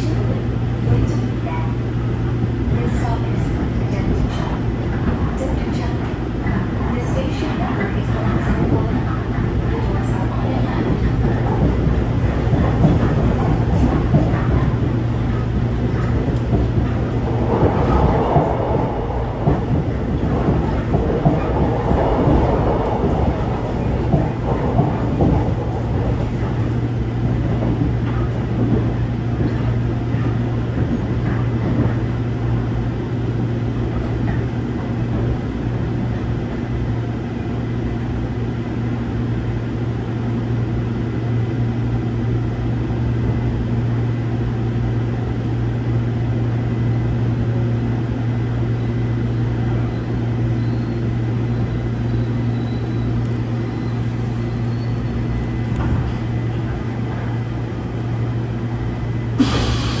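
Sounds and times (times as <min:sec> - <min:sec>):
train running on track: 0:00.0 - 1:00.0.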